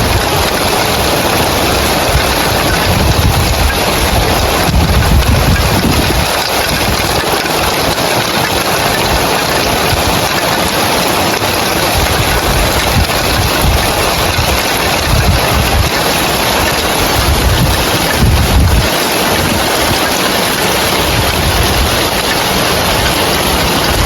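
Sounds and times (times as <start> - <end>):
rain on roof tiles: 0.0 - 24.0.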